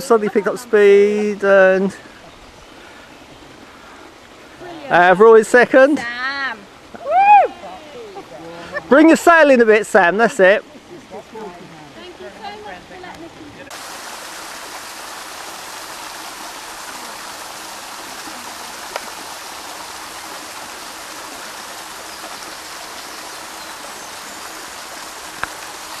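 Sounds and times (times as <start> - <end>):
running water hiss: 0.0 - 26.0.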